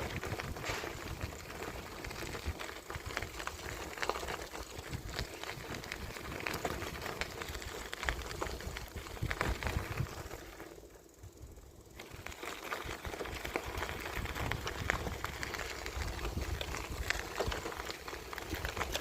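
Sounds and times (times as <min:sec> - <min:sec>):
bicycle tyres crackling on path: 0:00.0 - 0:19.0
small ticks and rattles: 0:00.0 - 0:19.0.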